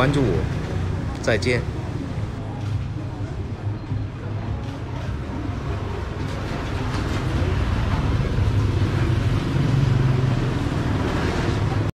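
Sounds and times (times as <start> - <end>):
low rumble of street traffic: 0.0 - 11.9.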